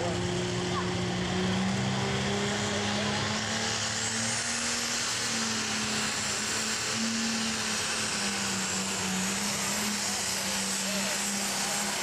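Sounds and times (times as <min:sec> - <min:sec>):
diesel engine drone: 0:00.0 - 0:12.0
high turbo whine: 0:00.0 - 0:12.0.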